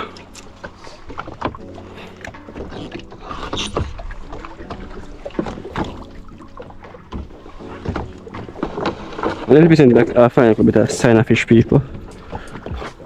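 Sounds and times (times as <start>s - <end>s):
boat motor hum: 0.0s - 13.0s
knocks and clatter on board: 0.0s - 13.0s.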